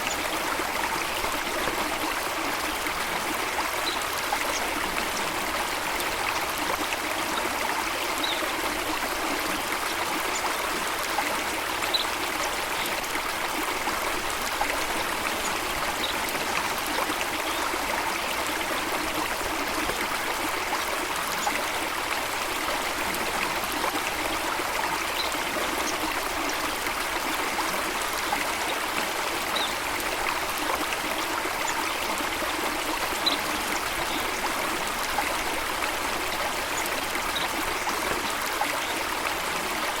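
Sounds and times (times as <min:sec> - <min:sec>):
stream babbling: 0:00.0 - 0:40.0.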